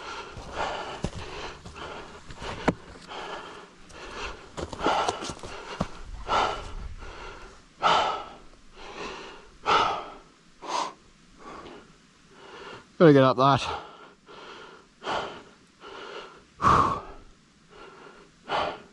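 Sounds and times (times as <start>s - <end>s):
heavy laboured breathing: 0.0s - 13.0s, 13.6s - 18.9s.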